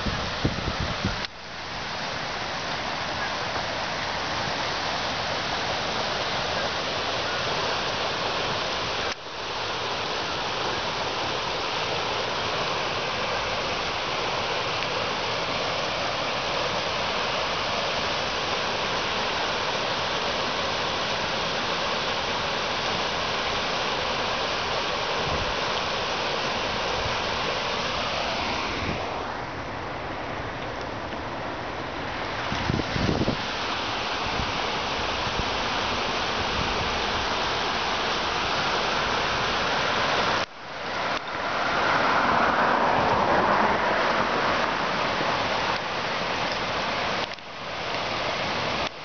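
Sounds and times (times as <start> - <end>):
creek water rushing over rocks: 0.0 - 49.0.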